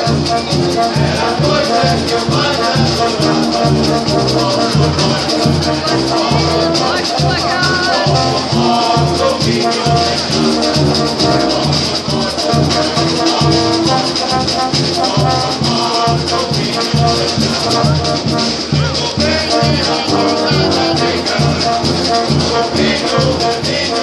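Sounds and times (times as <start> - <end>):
brass band playing: 0.0 - 24.0
percussion: 0.0 - 24.0
tuba bass line: 0.0 - 24.0.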